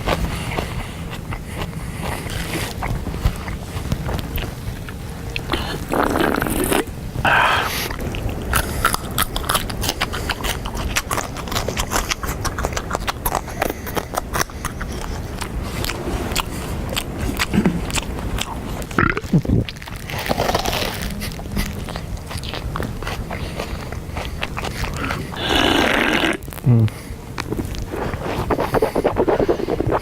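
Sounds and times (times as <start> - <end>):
open-mouthed chewing and crunching: 0.0 - 30.0.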